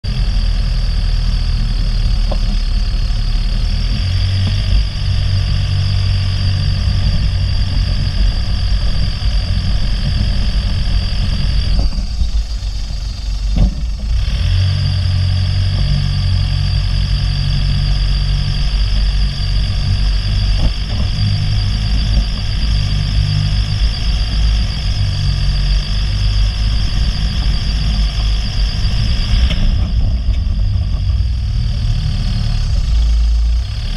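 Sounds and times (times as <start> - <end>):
jeep engine running: 0.0 - 33.9.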